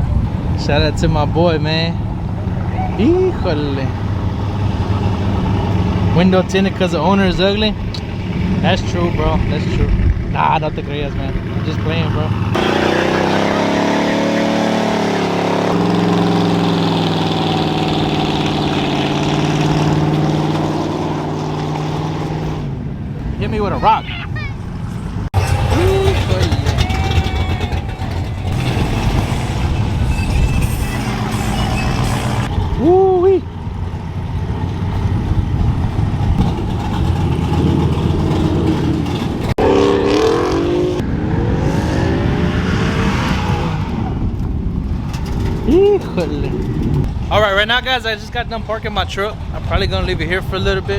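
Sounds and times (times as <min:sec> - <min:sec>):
truck engine droning: 0:00.0 - 0:50.9.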